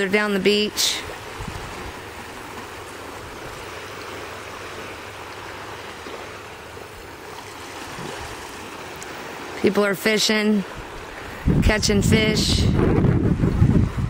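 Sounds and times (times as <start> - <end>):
small waves washing on shore: 0.0 - 14.0.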